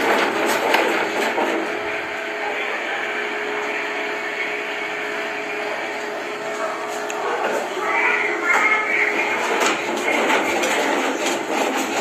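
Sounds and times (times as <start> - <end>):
washing machine spinning: 0.0 - 12.0
steady whine: 0.9 - 12.0.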